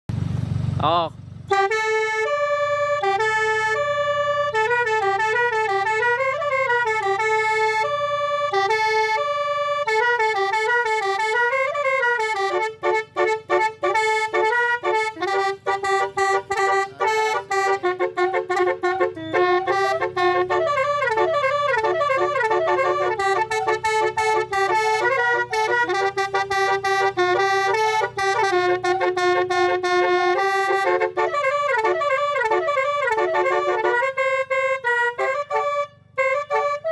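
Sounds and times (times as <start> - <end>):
bus horn playing a tune: 1.5 - 36.9.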